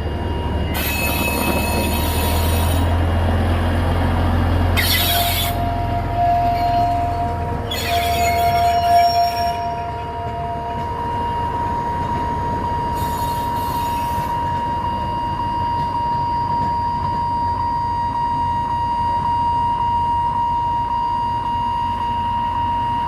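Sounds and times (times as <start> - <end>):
train rumble: 0.0 - 23.0
steady high-pitched tone: 4.2 - 23.0.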